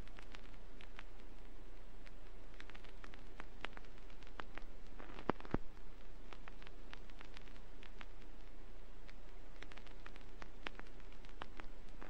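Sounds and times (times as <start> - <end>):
low steady hum: 0.0 - 12.0
vinyl record hiss and crackles: 0.0 - 12.0
vinyl record pops: 0.0 - 12.0.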